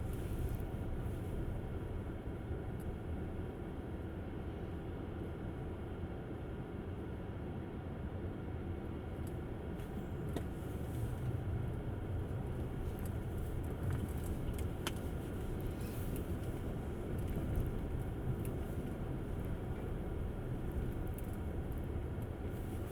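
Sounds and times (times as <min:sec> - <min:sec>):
road and tyre rumble: 0:00.0 - 0:22.9.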